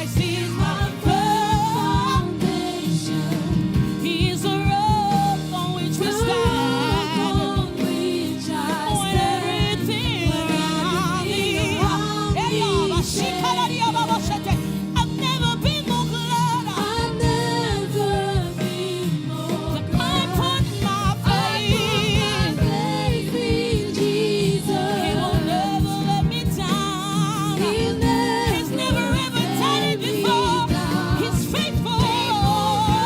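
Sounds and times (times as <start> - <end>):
gospel choir singing: 0.0 - 33.0
lead singer singing: 0.0 - 33.0
live band with drums: 0.0 - 33.0.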